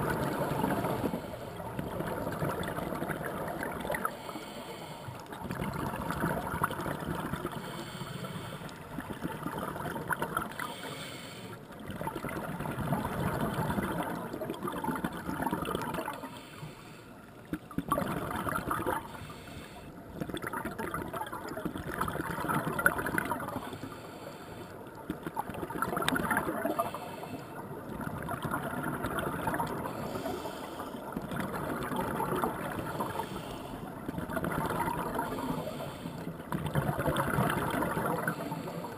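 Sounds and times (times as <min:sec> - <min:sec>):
underwater exhaust bubbles burbling: 0:00.0 - 0:04.6, 0:05.2 - 0:10.9, 0:11.7 - 0:16.5, 0:17.4 - 0:24.0, 0:25.0 - 0:38.9.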